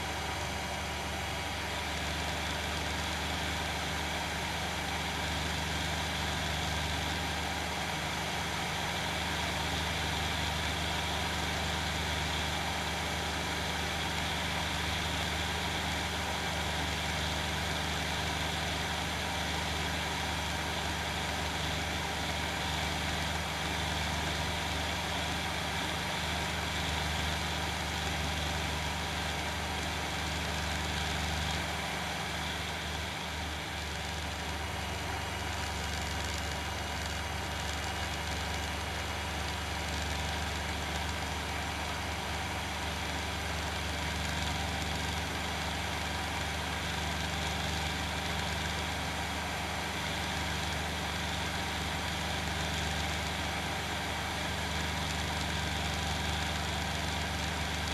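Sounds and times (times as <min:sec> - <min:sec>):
ultralight engine and propeller: 0:00.0 - 0:57.9.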